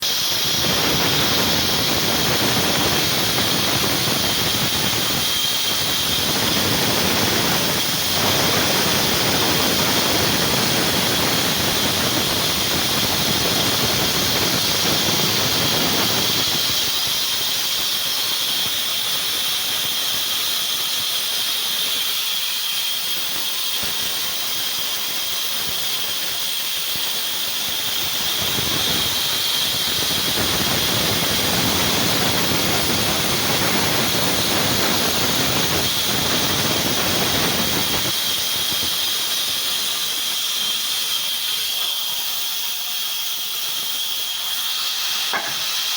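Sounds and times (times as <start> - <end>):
power tool high-pitched whine: 0.0 - 45.9.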